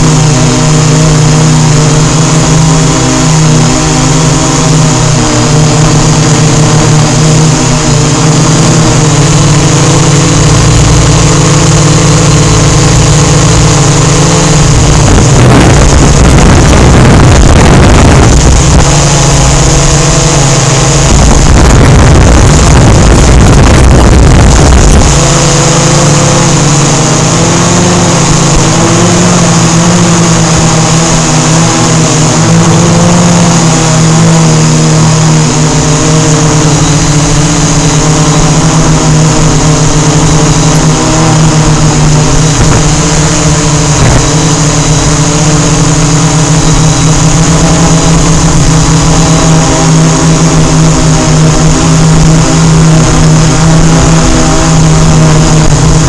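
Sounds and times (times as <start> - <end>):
quadcopter propellers humming: 0.0 - 56.0.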